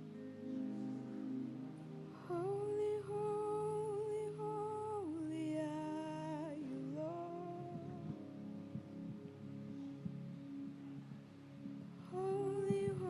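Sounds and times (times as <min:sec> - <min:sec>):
soft instrumental music: 0:00.0 - 0:13.0.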